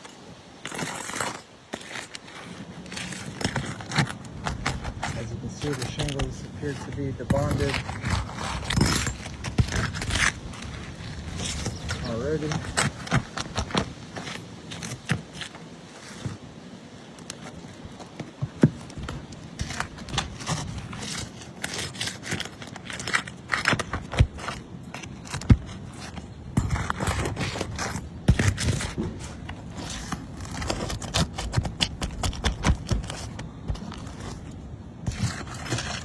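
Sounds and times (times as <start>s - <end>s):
roof shingles scraping and crackling: 0.0s - 36.0s.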